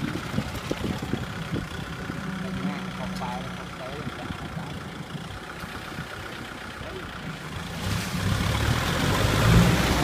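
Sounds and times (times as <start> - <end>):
tractor diesel engine: 0.0 - 10.0.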